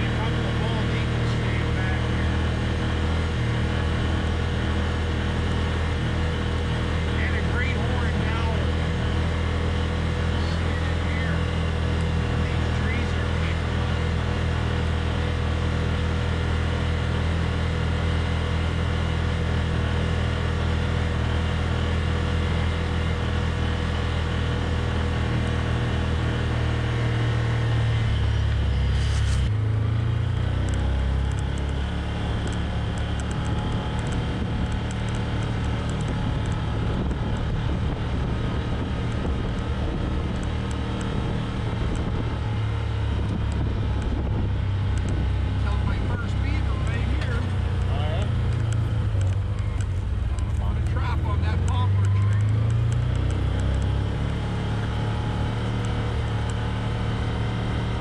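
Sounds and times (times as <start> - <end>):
engine running while driving: 0.0 - 58.0.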